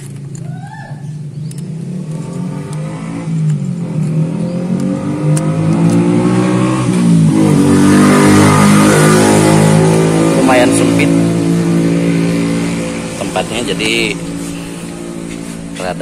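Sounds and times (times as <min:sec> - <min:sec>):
car engine revving: 0:01.2 - 0:16.0.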